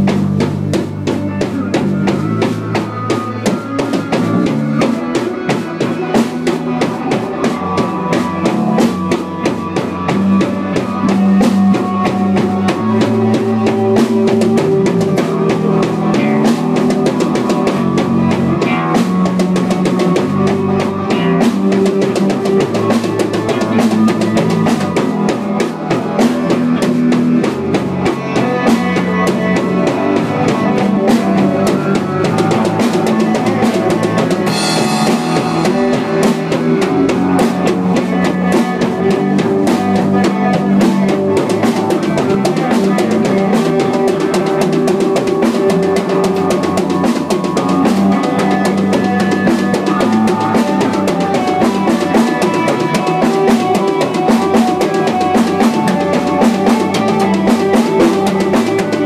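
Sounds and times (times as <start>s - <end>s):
bass notes: 0.0s - 59.0s
drum kit beat: 0.0s - 59.0s
guitar: 0.0s - 59.0s.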